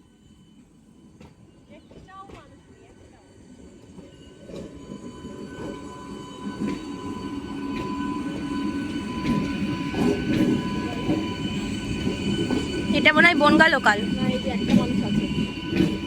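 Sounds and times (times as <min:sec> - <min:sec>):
electric train rumbling past: 0:00.0 - 0:16.0.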